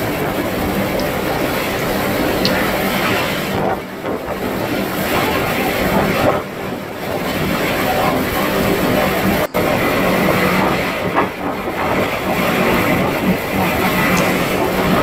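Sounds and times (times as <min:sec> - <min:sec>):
hurricane wind with driving rain: 0:00.0 - 0:15.0.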